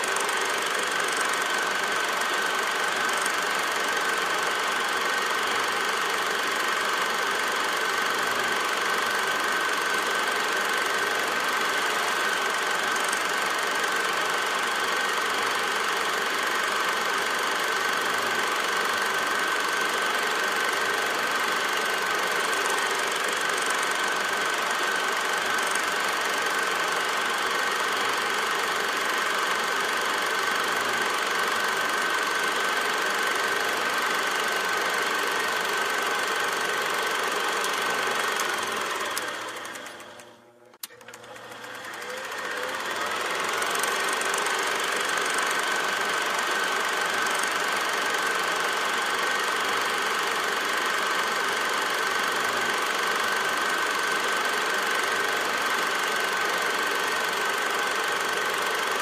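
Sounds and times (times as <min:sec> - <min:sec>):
film projector clattering: 0:00.0 - 0:59.0.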